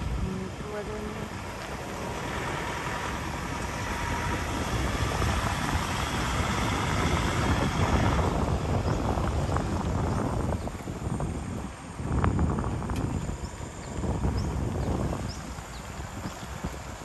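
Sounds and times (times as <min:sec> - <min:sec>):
vehicle road noise rumbling: 0:00.0 - 0:17.0
wind buffeting microphone: 0:00.0 - 0:17.0.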